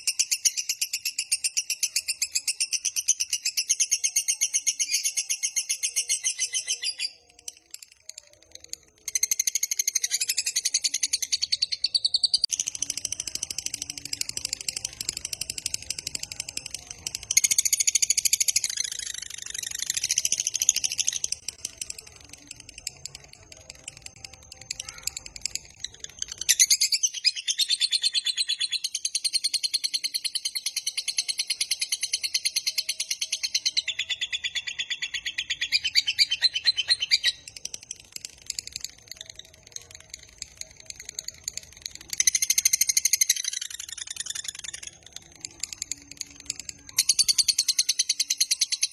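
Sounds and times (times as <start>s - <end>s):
bird chattering trill: 0.0s - 48.9s.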